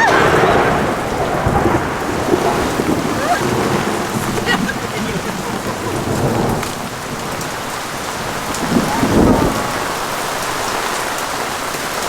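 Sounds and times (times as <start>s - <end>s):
low rumble of thunder: 0.0s - 10.8s
heavy rain pouring: 0.0s - 12.0s.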